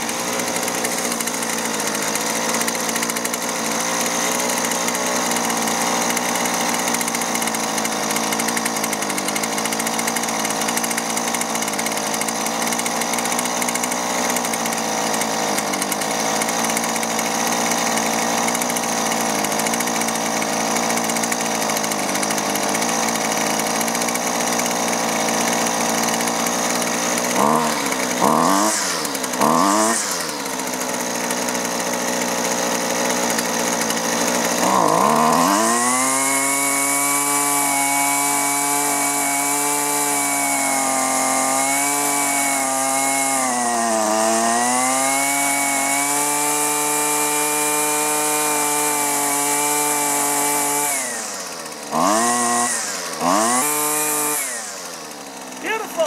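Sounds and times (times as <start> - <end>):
string trimmer engine revving: 0.0 - 56.0.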